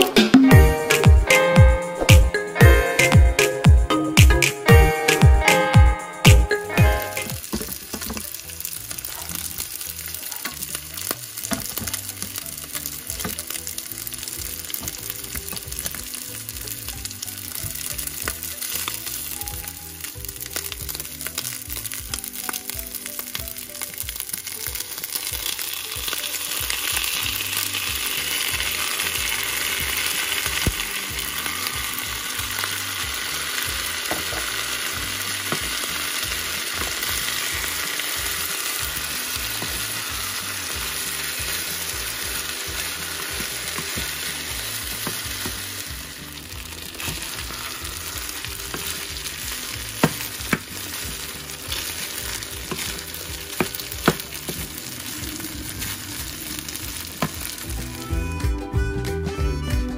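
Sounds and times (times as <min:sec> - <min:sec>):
rice sizzling in oil: 0:04.8 - 0:58.6.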